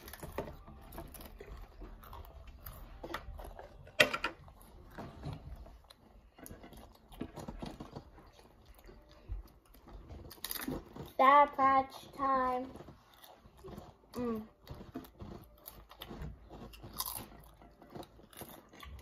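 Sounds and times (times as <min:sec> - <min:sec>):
children crunching potato chips: 0:00.0 - 0:19.0.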